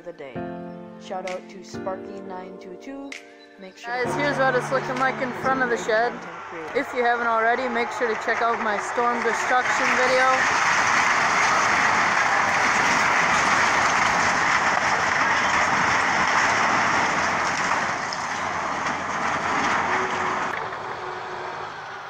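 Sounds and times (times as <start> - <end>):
bulldozer engine and tracks: 3.8 - 22.0.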